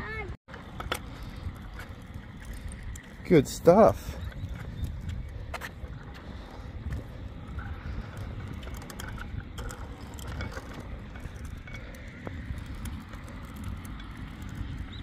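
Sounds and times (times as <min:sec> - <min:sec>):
bicycle tyres rumbling on concrete: 0:00.0 - 0:15.0
bike clicks and rattles: 0:00.5 - 0:15.0.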